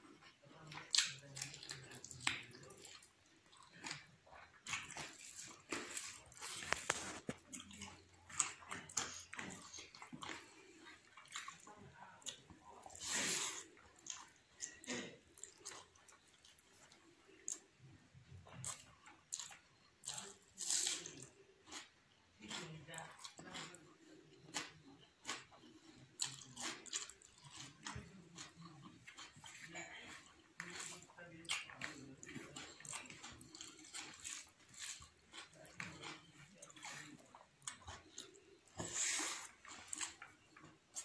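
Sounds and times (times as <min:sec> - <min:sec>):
wet chewing and lip-smacking: 0:00.1 - 0:41.0.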